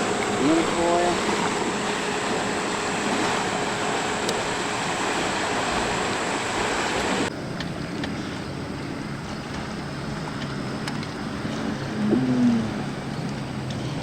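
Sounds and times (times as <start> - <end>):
wind and water rushing: 0.0 - 14.0.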